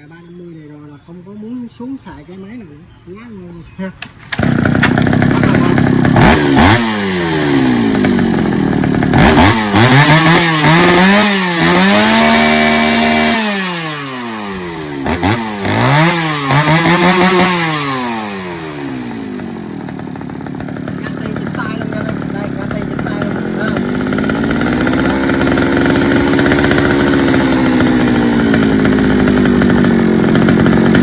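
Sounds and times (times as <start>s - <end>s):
chainsaw revving: 4.0s - 31.0s.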